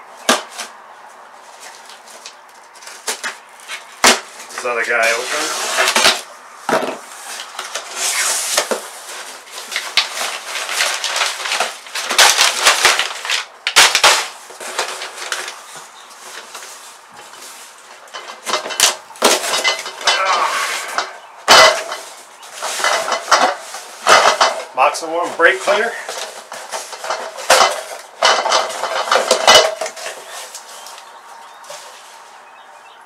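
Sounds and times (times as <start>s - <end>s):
cardboard flaps scraping and rustling: 0.3s - 32.5s.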